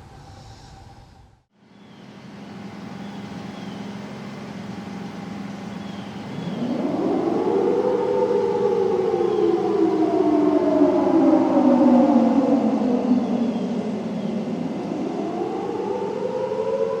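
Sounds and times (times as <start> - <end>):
distant civil defense siren wailing: 2.5 - 17.0.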